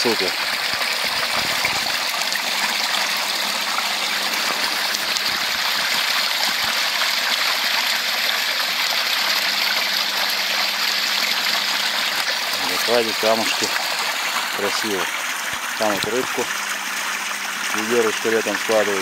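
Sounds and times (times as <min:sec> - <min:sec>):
brook splashing over wooden dam: 0:00.0 - 0:17.9.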